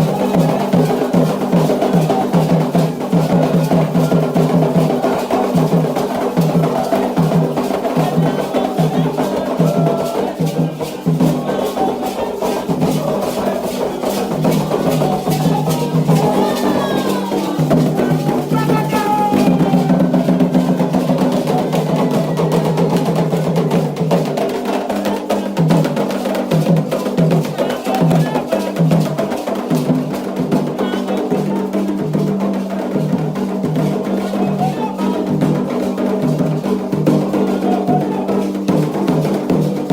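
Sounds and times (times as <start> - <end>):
voices: 0.0 - 38.9
hand drums beaten fast: 0.0 - 39.9.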